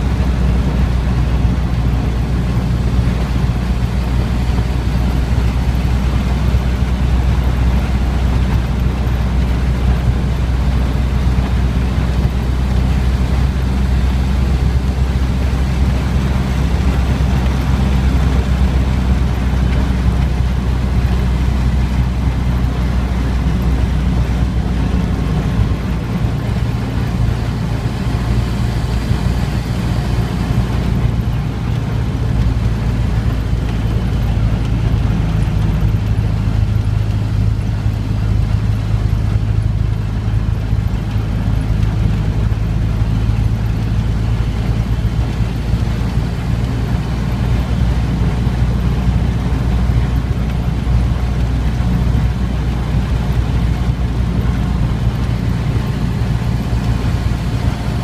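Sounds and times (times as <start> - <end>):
road noise: 0.0 - 58.0
truck engine rumbling: 0.0 - 58.0.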